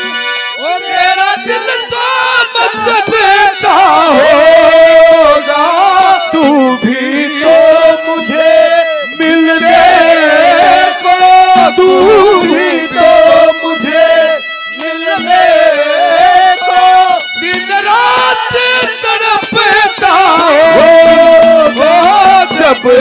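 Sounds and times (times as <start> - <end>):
harmonium tones: 0.0 - 23.0
ornamented folk melody: 0.0 - 23.0.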